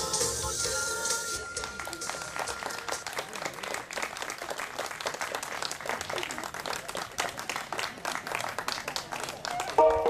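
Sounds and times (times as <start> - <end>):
people clapping: 1.5 - 10.0.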